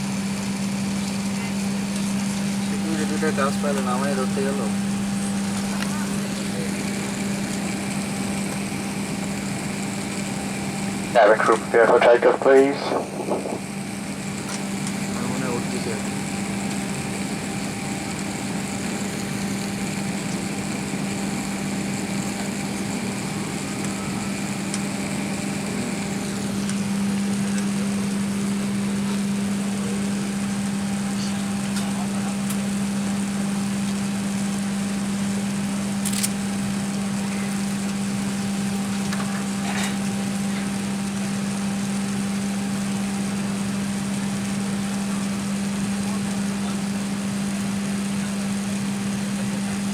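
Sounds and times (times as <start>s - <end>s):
airplane cabin engine hum: 0.0s - 49.9s.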